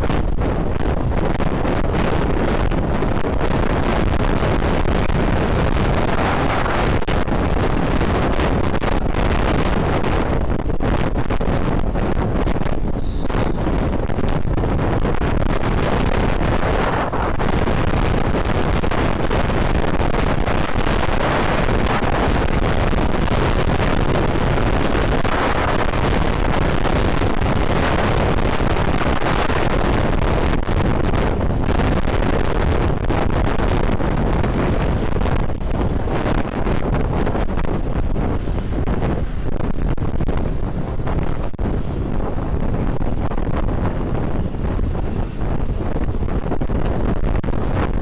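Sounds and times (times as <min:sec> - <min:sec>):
scooter running noise: 0:00.0 - 0:48.0
wind roaring over microphone: 0:00.0 - 0:48.0.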